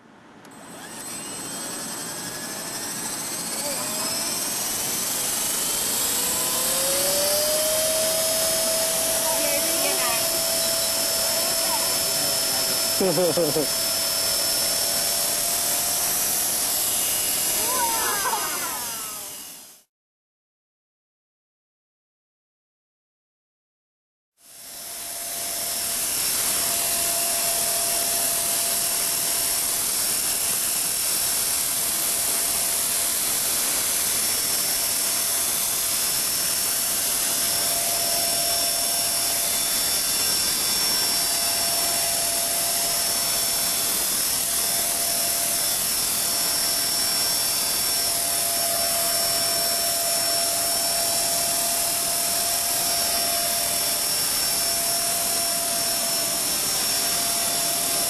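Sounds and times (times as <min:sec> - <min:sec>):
rc helicopter motor whine: 0:00.0 - 0:19.9, 0:24.4 - 0:58.0.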